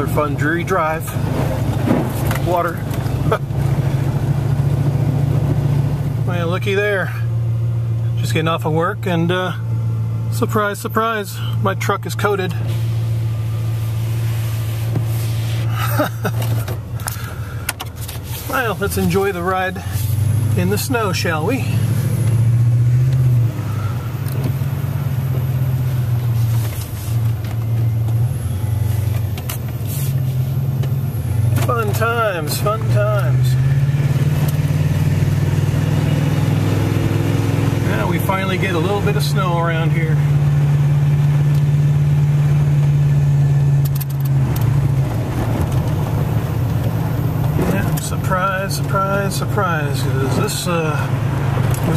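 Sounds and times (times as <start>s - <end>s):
truck engine and road noise: 0.0s - 51.9s.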